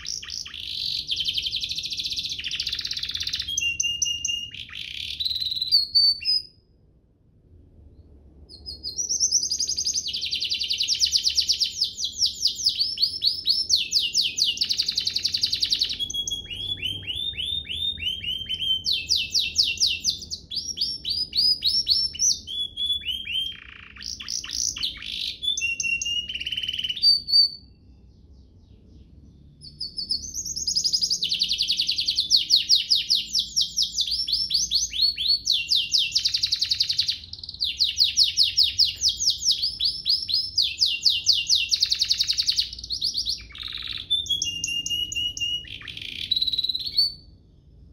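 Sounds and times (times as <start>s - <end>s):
canary singing trills: 0.0s - 6.7s, 8.0s - 47.8s.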